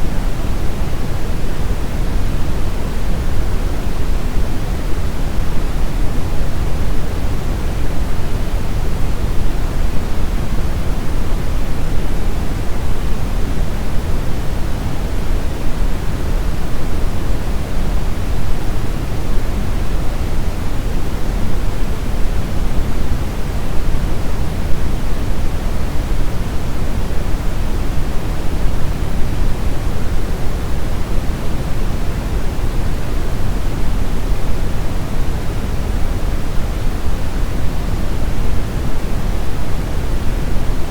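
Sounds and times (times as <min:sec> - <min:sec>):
brown noise hiss: 0:00.0 - 0:40.9.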